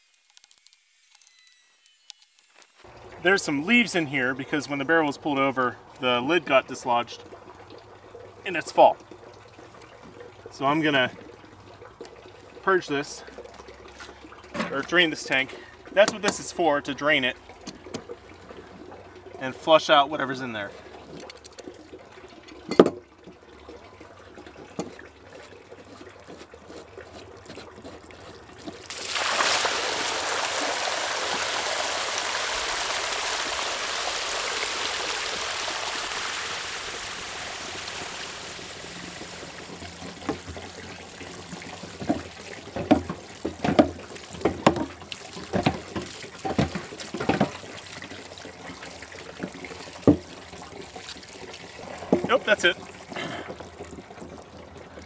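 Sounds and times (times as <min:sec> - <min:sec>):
water gushing and splashing on ground: 0:02.8 - 0:55.0.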